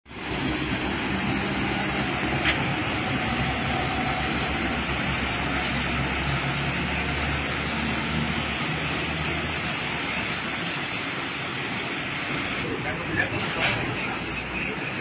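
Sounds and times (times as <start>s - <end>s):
rain hiss: 0.1s - 15.0s
truck engines rumbling: 0.1s - 15.0s.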